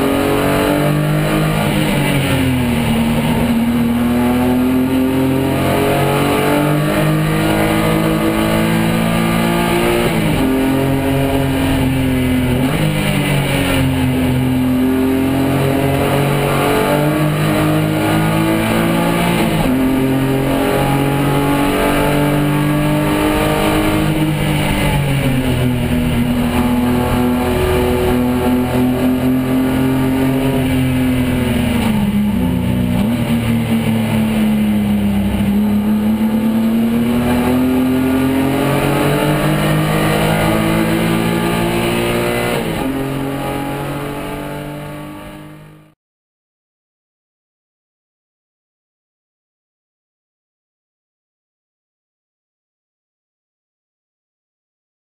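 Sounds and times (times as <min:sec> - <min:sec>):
race car engine accelerating: 0:00.0 - 0:46.0.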